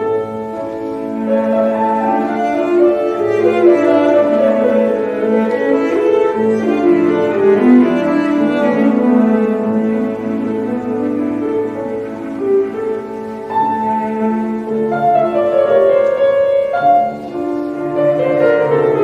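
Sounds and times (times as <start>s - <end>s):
cello and piano chamber music: 0.0s - 19.0s.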